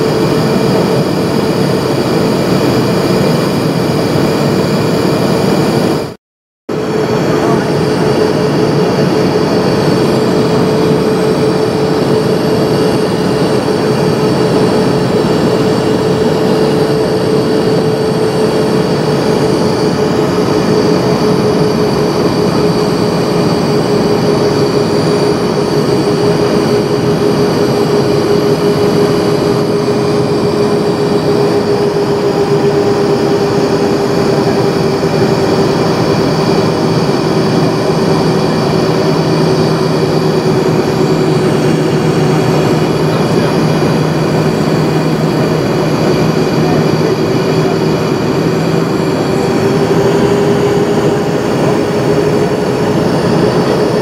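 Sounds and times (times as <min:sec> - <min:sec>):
jet engines roaring: 0:00.0 - 0:54.0
steady hum: 0:00.0 - 0:54.0.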